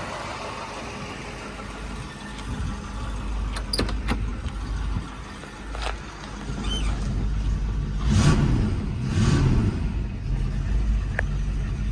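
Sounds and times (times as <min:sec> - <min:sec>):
car engine running and revving: 0:00.0 - 0:11.9.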